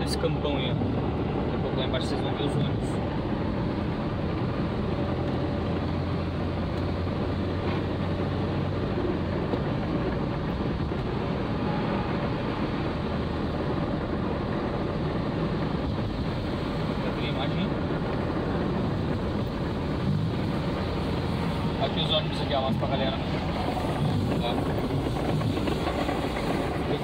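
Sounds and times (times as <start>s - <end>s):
car engine hum: 0.0s - 27.0s
tyres on wet asphalt: 0.0s - 27.0s.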